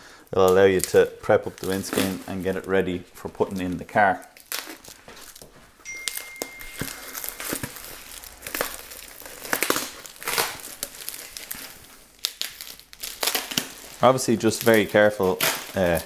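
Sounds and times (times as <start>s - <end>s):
plastic packaging crinkling: 0.3s - 16.0s.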